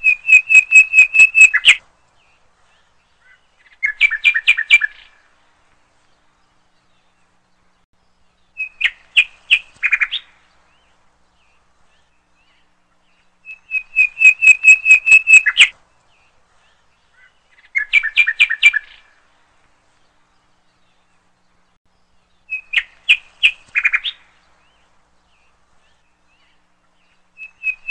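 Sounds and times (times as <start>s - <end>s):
songbird chirping: 0.0s - 27.9s.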